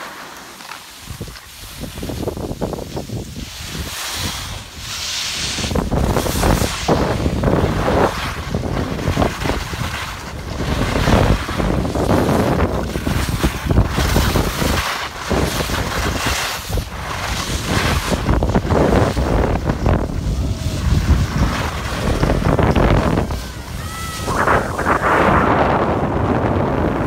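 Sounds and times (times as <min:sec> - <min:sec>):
wind buffeting microphone: 0:01.1 - 0:27.0.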